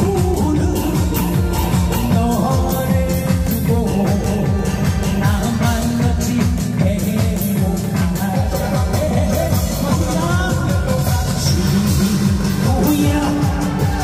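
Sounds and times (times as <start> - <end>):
loud music with fast beat: 0.0 - 14.0
person singing: 0.0 - 14.0.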